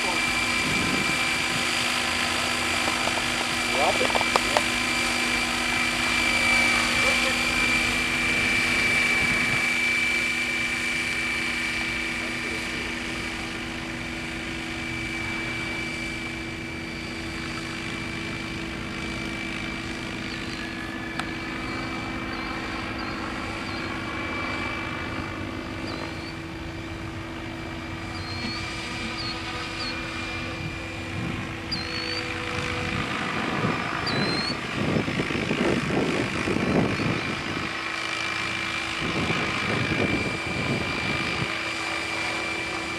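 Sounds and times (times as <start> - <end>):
model helicopter rotor whine: 0.0 - 42.9.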